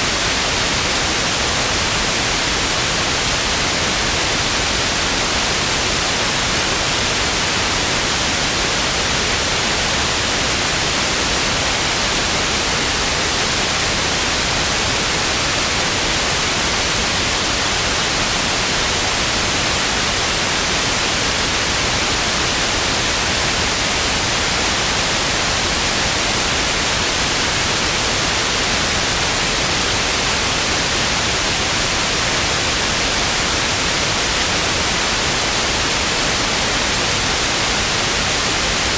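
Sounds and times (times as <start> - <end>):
television static hiss: 0.0 - 38.9.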